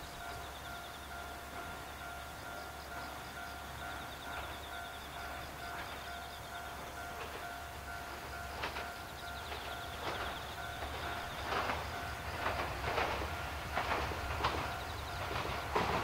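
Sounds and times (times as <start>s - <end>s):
level-crossing warning bell ringing: 0.0s - 16.0s
train wheels clicking on rails: 0.0s - 16.0s.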